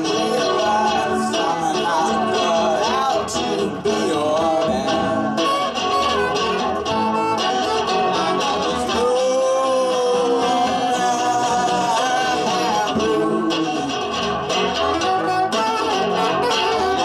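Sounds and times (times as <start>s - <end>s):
guitar playing: 0.0s - 17.0s
live band music: 0.0s - 17.0s
sustained melodic line: 0.0s - 17.0s.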